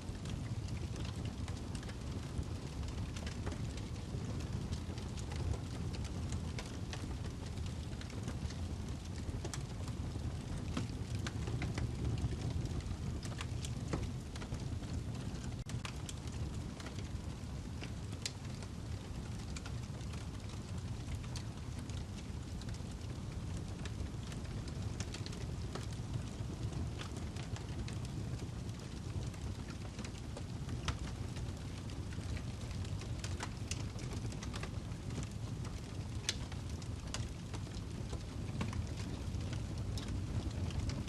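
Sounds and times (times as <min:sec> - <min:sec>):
burning log crackling and popping: 0:00.0 - 0:41.0
low rumble of flames: 0:00.0 - 0:41.0.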